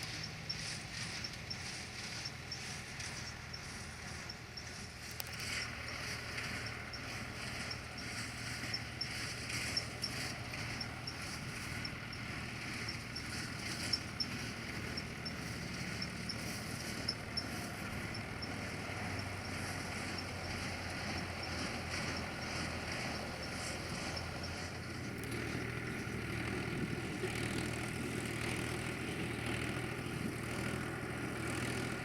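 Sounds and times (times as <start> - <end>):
baler high ticking: 0.0 - 32.0
tractor engine running: 0.0 - 32.0.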